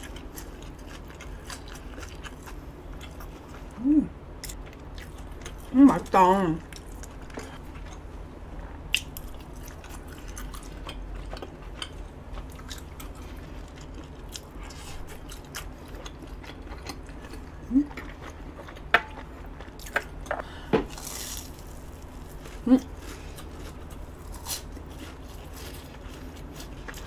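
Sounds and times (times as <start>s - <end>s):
person chewing food: 0.0s - 3.8s, 8.8s - 27.0s.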